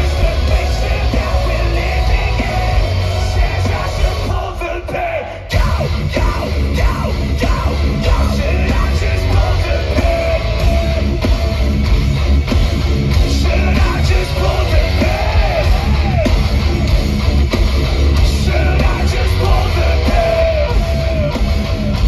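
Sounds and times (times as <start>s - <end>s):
shouted and sung vocals: 0.0s - 11.6s, 13.1s - 17.0s, 18.1s - 22.0s
distorted guitars: 0.0s - 22.0s
drums: 0.0s - 22.0s
metalcore band playing live: 0.0s - 22.0s.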